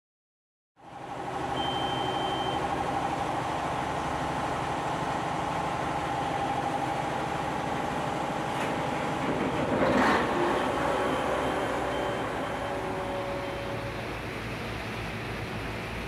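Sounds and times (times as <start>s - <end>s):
marine diesel engine running: 0.8s - 16.0s.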